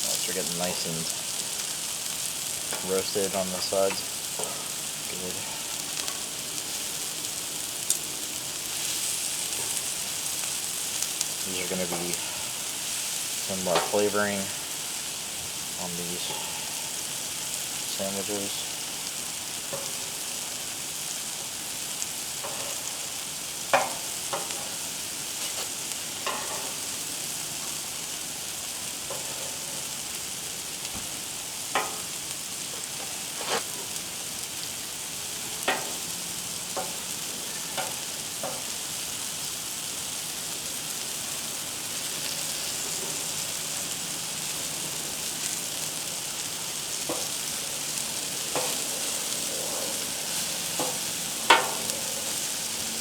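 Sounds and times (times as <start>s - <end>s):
tomatoes sizzling on a griddle: 0.0s - 53.0s.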